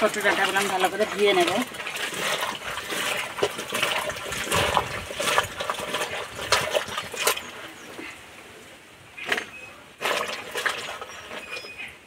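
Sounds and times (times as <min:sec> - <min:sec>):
hands splashing water in a pail: 0:00.0 - 0:08.1, 0:09.2 - 0:11.9.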